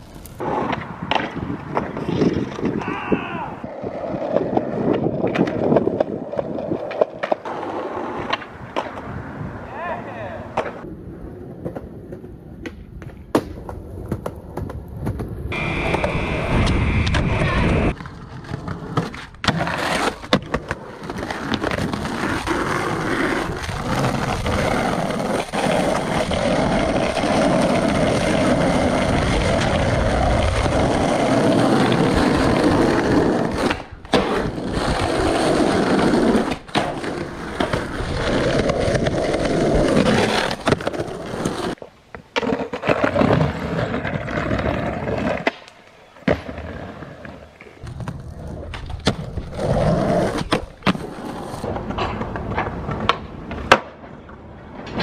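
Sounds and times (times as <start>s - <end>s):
skateboard wheels rolling on pavement: 0.0s - 55.0s
skateboard clacks: 0.1s - 3.0s, 3.6s - 9.1s, 10.4s - 55.0s.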